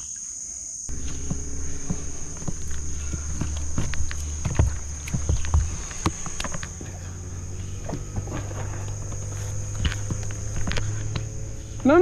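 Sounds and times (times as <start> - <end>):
high-pitched insect drone: 0.0 - 12.0
short knocks: 0.9 - 11.9
low steady hum: 0.9 - 12.0.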